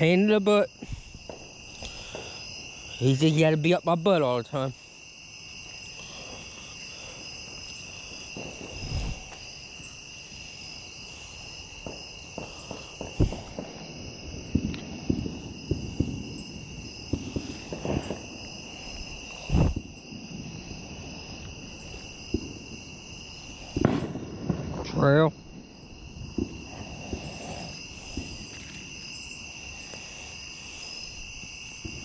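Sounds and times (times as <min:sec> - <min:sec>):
night insects chirping: 0:00.0 - 0:32.0.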